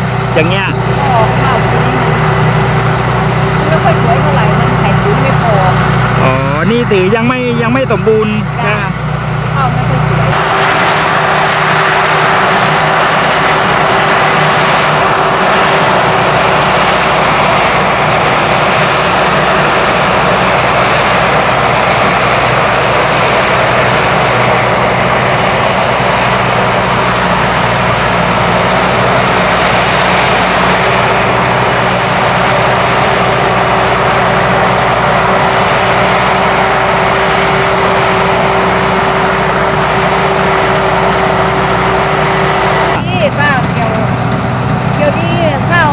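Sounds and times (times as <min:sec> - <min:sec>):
combine harvester engine drone: 0:00.0 - 0:45.9
high machine whine: 0:00.0 - 0:45.9.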